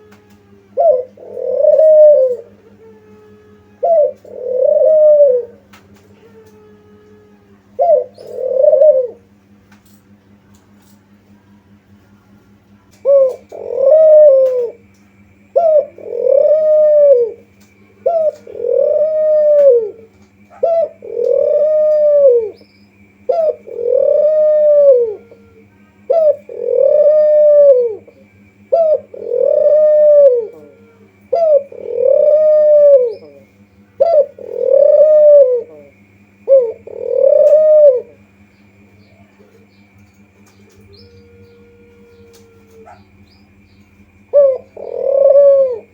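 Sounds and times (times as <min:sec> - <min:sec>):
dove cooing: 0:00.0 - 0:10.0, 0:12.9 - 0:45.9
steady low hum: 0:00.0 - 0:45.9.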